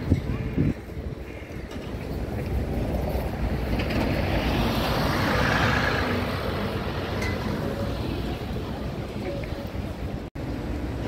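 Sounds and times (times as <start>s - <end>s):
street traffic hum: 0.0s - 11.0s
bus passing close by: 2.1s - 11.0s.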